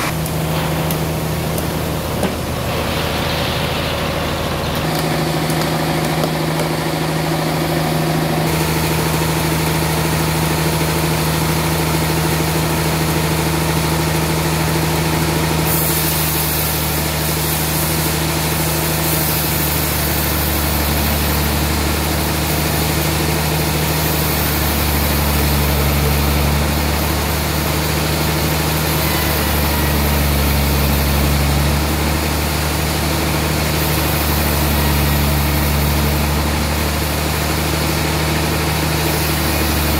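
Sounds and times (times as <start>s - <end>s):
sawmill saw humming: 0.0s - 39.9s.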